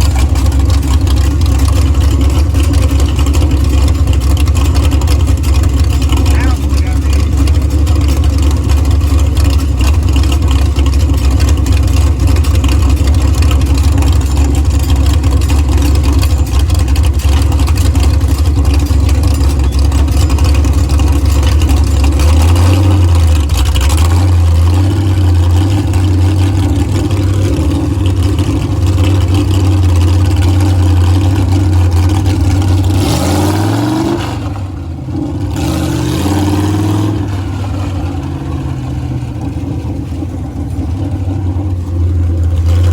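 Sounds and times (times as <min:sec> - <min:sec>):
monster truck engine rumbling: 0:00.0 - 0:42.9.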